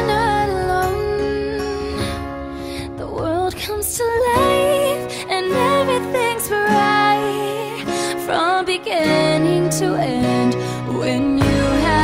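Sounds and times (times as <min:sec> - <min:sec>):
person singing: 0:00.0 - 0:12.0
song with held chords: 0:00.0 - 0:12.0.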